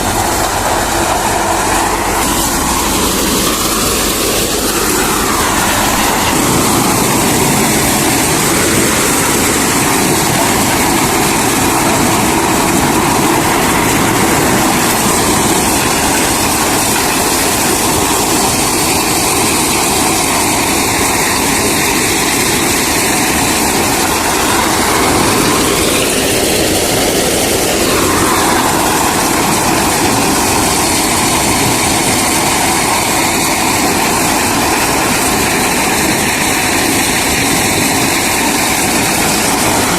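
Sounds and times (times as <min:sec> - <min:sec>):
thresher machine din: 0:00.0 - 0:39.9.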